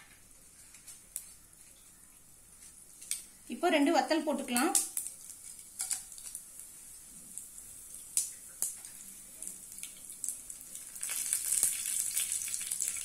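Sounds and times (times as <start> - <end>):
food sizzling in hot oil: 0.2 - 13.0.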